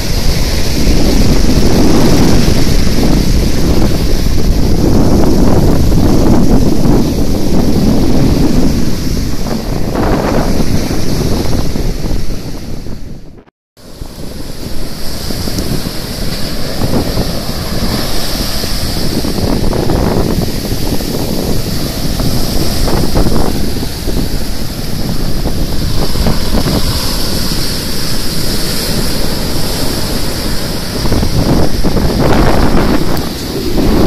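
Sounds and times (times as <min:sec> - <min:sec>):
ocean surf breaking on beach: 0:00.0 - 0:34.0
wind buffeting microphone: 0:00.0 - 0:34.0.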